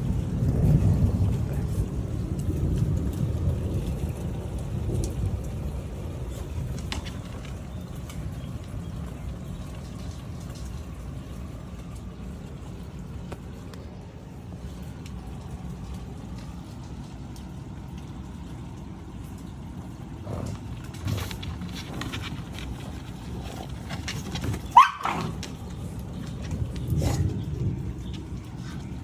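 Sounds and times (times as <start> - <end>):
low rumble of thunder: 0.0 - 29.0
rain hissing: 0.0 - 29.0.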